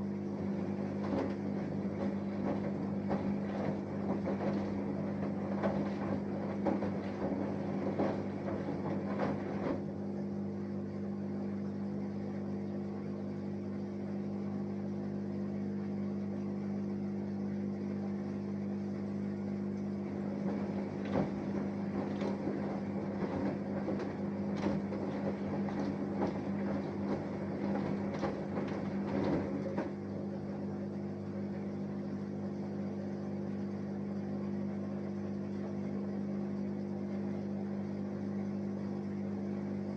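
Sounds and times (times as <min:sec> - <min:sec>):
drum sloshing and rustling: 0:00.0 - 0:39.9
washing machine hum: 0:00.0 - 0:39.9.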